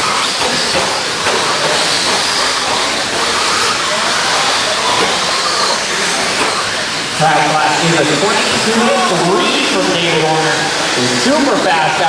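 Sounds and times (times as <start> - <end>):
high motor whines: 0.0 - 12.0
rc trucks racing: 0.0 - 12.0.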